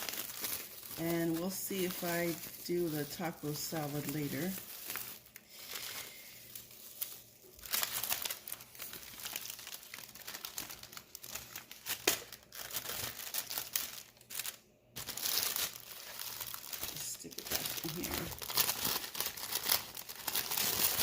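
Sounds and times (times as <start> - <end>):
plastic wrap crinkling: 0.0 - 21.0.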